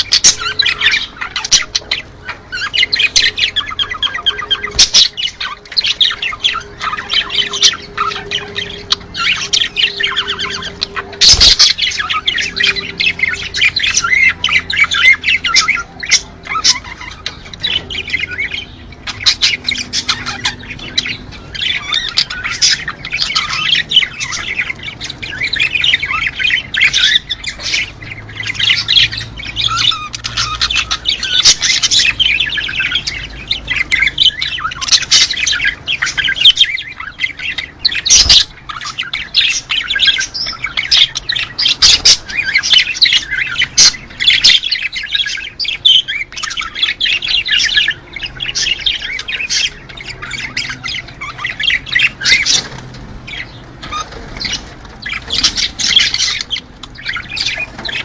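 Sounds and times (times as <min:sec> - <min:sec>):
budgerigars chattering and warbling: 0:00.0 - 0:58.0.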